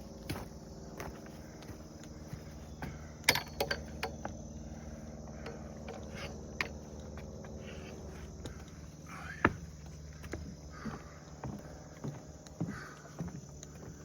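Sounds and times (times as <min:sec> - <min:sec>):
footsteps and gear knocks: 0:00.0 - 0:04.5, 0:05.4 - 0:14.0
crickets chirping: 0:00.0 - 0:14.0.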